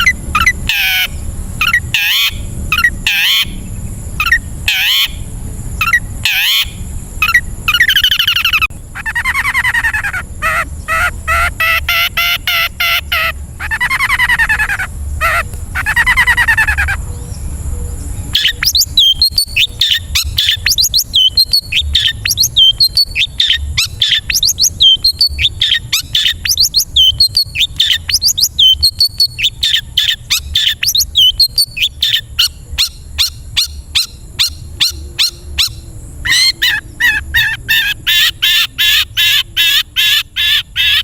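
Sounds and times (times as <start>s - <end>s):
bird singing buzzy rattles: 0.0s - 41.0s.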